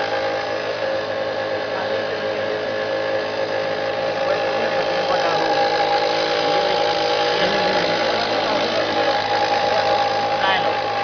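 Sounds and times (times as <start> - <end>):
fuel pump motor hum: 0.0 - 11.0.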